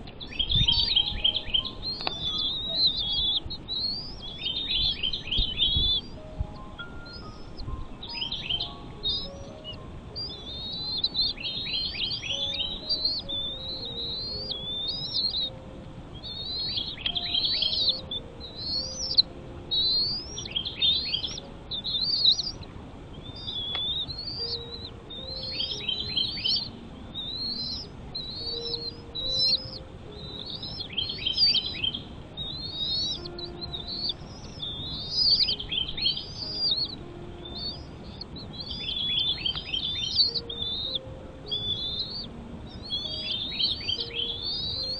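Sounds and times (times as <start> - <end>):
bird chirping: 0.0 - 44.9.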